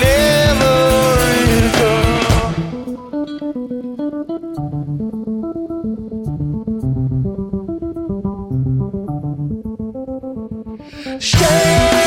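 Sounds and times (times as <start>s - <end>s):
bass guitar: 0.0s - 12.0s
electric guitar picking notes: 0.0s - 12.0s.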